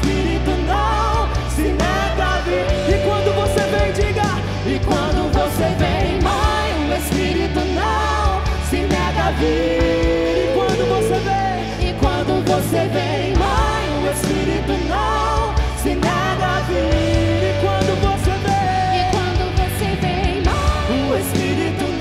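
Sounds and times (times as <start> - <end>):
bass: 0.0 - 22.0
drums with cymbals: 0.0 - 22.0.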